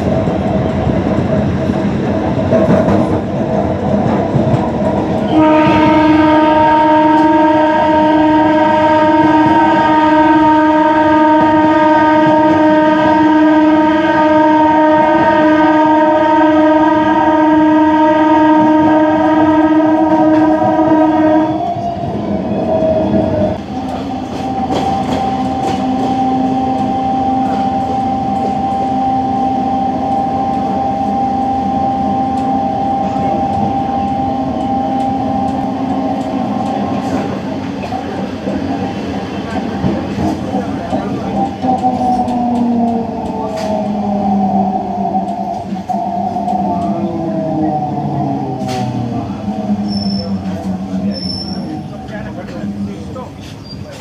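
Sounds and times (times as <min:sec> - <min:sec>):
train rumbling and rattling: 0:00.0 - 0:54.0
train horn long blast: 0:05.1 - 0:52.8.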